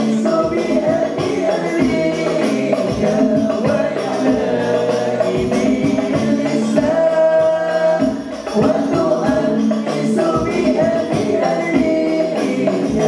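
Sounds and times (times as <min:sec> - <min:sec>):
frame drums beating: 0:00.0 - 0:13.0
man singing through loudspeakers: 0:00.0 - 0:13.0.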